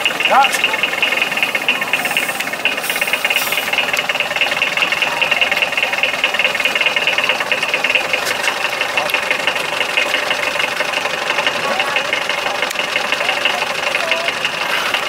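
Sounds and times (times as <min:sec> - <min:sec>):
truck engine running at low revs: 0:00.0 - 0:15.0.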